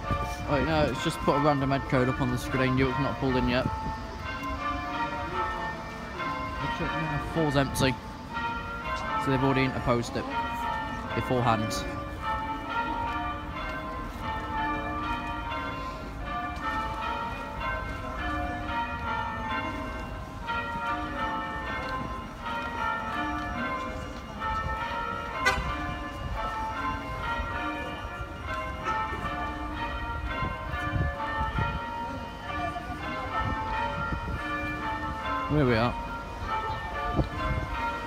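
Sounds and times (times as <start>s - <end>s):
church bells ringing: 0.0s - 38.0s.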